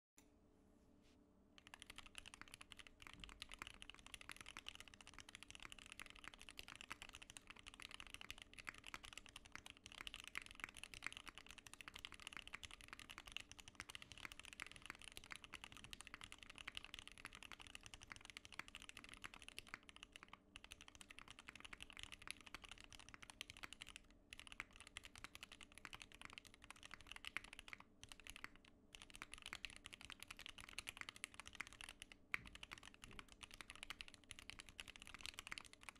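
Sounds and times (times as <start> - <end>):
mechanical keyboard typing: 1.6 - 35.9.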